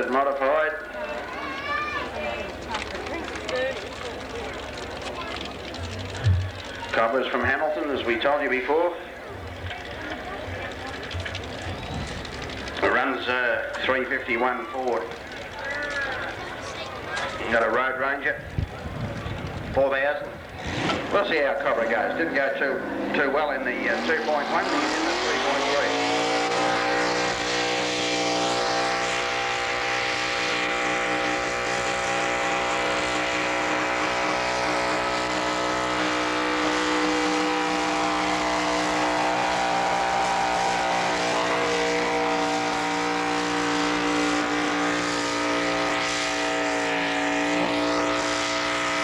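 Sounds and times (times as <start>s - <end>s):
pulling tractor engine at high revs: 0.0s - 49.0s.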